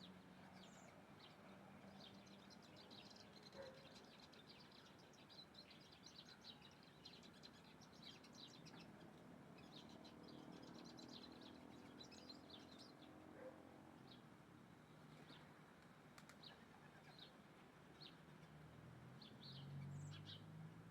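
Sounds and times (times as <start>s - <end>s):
small birds chirping: 0.0s - 18.6s, 19.2s - 20.6s.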